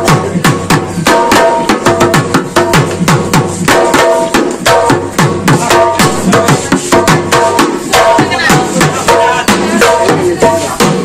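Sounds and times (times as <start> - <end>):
drum beaten with stick: 0.0 - 11.0.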